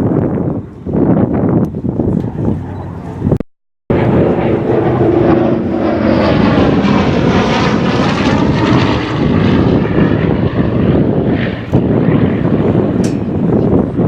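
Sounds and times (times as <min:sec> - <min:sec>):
propeller aircraft flying past: 0:01.8 - 0:14.0.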